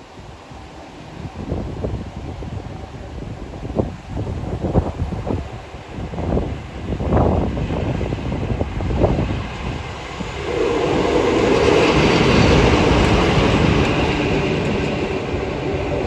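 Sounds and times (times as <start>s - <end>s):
diesel locomotive engine passing: 0.0s - 16.0s
train wheels on rails: 0.0s - 16.0s.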